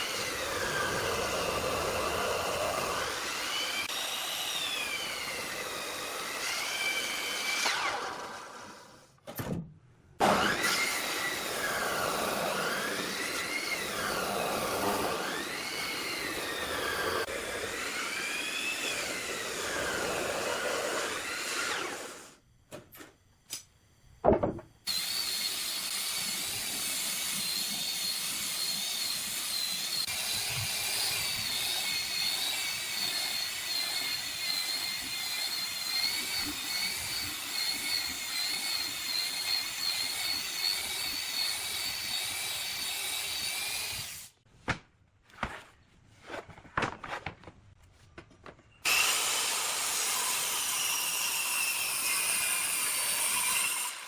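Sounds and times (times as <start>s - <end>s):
power tool whining on wood: 0.0s - 9.0s, 10.2s - 22.4s, 24.9s - 44.3s, 48.8s - 54.0s.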